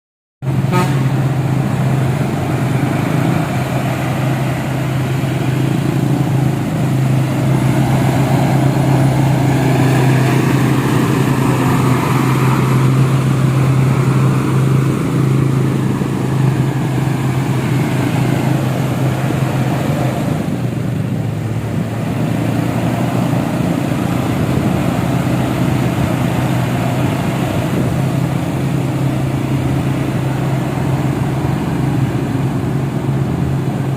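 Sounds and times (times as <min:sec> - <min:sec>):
truck engine running with low hum: 0:00.4 - 0:33.9.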